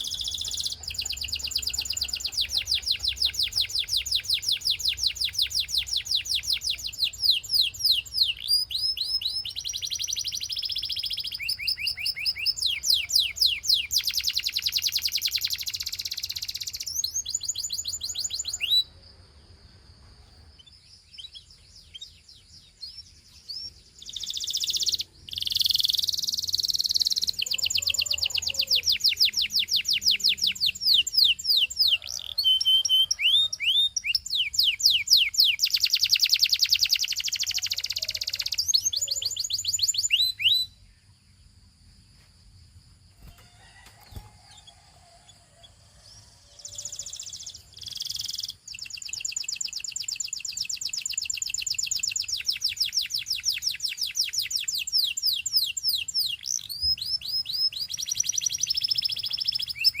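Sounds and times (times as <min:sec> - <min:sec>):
canary singing in rapid trills: 0:00.0 - 0:18.9, 0:20.5 - 0:40.8, 0:43.2 - 1:00.0.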